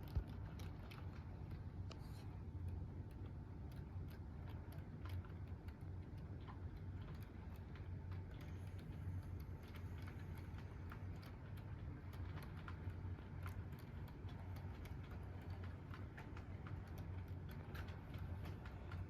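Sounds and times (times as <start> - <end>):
wheels clicking on rail joints: 0.0 - 19.0.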